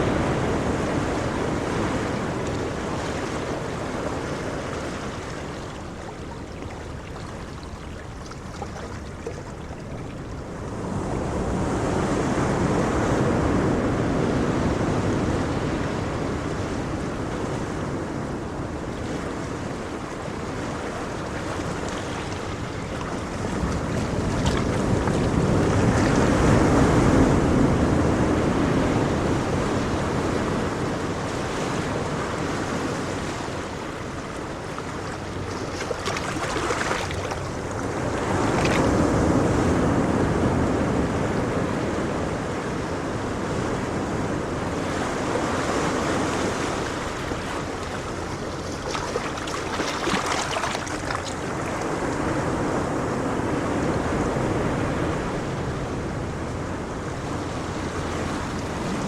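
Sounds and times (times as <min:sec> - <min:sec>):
ocean waves washing on shore: 0:00.0 - 0:59.0
wind buffeting microphone: 0:00.0 - 0:59.0.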